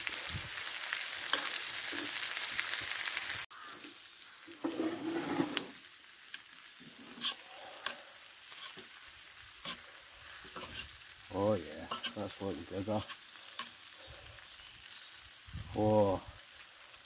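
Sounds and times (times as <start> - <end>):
food sizzling in hot pan: 0.0 - 17.0.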